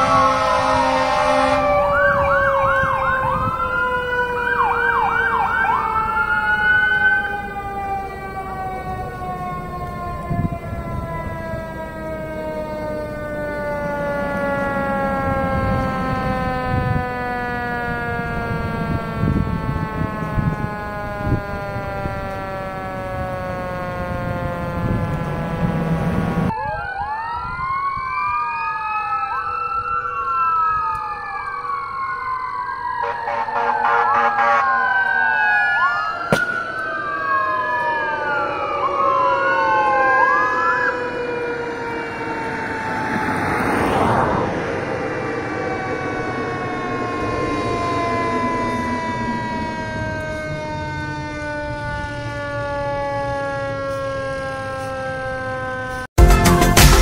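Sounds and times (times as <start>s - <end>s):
electronic siren wailing: 0.0s - 56.1s
steady siren tone falling: 0.0s - 57.0s.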